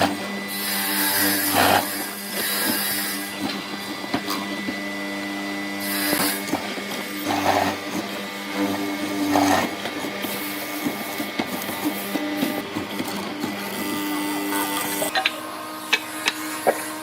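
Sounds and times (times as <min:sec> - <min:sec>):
small power tool running: 0:00.0 - 0:17.0.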